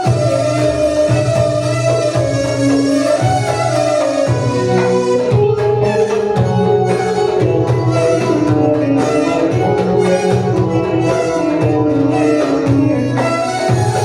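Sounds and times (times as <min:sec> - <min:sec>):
hand drum rhythm: 0:00.0 - 0:14.0
traditional melody on sustained instruments: 0:00.0 - 0:14.0.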